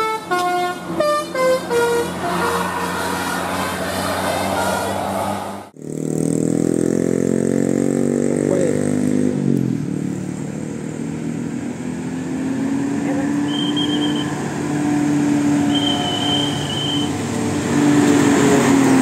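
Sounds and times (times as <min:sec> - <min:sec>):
vehicle engine accelerating: 0:00.0 - 0:19.0.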